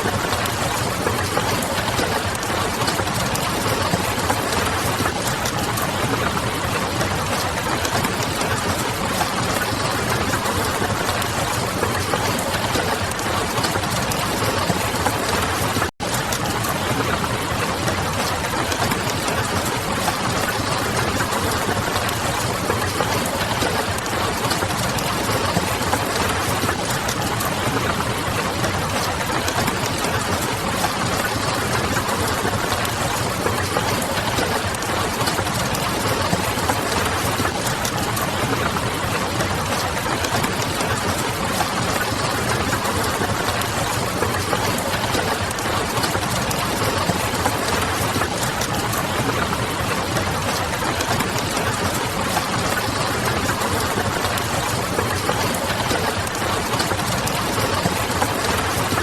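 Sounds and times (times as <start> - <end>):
rain pattering against window: 0.0 - 59.0.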